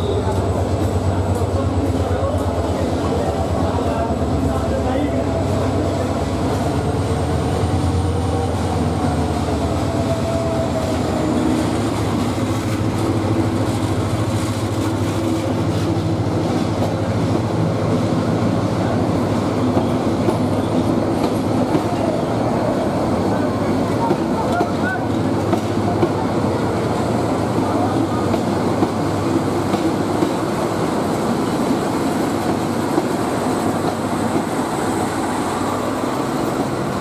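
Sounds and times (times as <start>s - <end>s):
coach wheels on rails: 0.0s - 37.0s
diesel locomotive engine drone: 0.0s - 37.0s.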